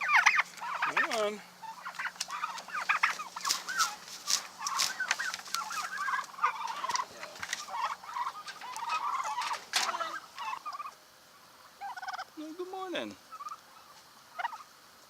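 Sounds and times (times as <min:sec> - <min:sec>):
poultry calling: 0:00.0 - 0:14.8.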